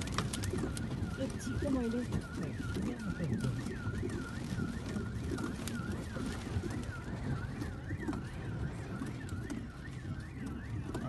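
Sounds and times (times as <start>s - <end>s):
car alarm wailing: 0.0s - 11.0s
wind buffeting car: 0.0s - 11.0s.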